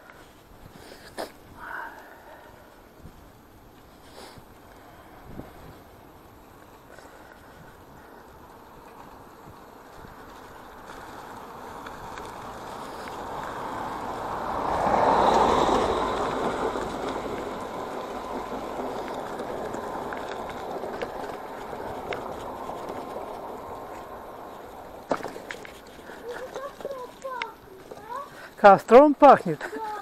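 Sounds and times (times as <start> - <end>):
bicycle tyres rolling on asphalt: 0.0 - 30.0
bicycle clicks and rattles: 3.2 - 14.8, 15.7 - 28.6.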